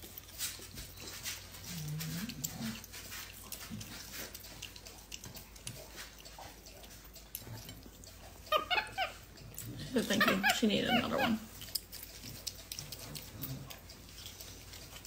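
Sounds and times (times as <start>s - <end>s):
monkey chewing clicks and crunches: 0.0s - 15.0s.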